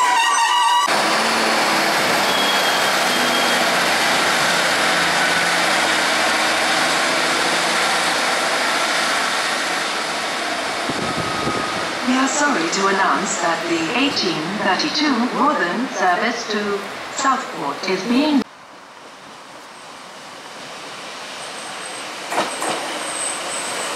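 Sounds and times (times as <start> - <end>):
train wheel noise: 0.0 - 17.8, 20.6 - 23.9
diesel train engines working: 0.0 - 23.9.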